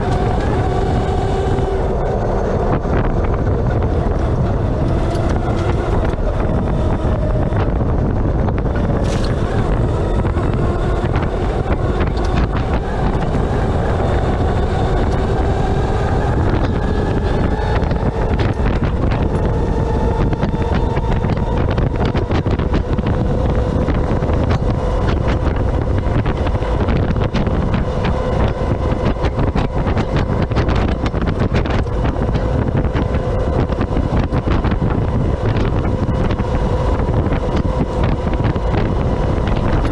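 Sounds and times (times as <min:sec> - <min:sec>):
electric drive whine: 0:00.0 - 0:39.9
low rumble: 0:00.0 - 0:39.9
wind buffeting microphone: 0:00.0 - 0:39.9.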